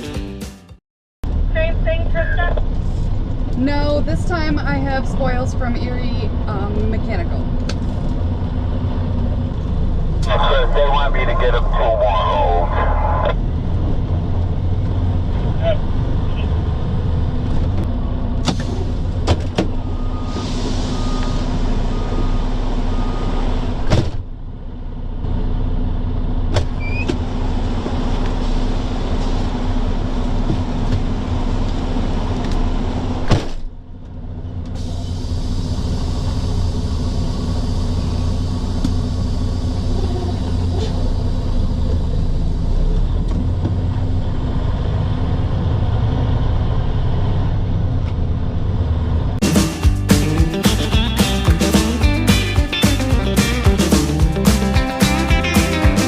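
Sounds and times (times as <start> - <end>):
diesel truck engine droning: 1.2 - 56.0
road noise: 1.2 - 56.0.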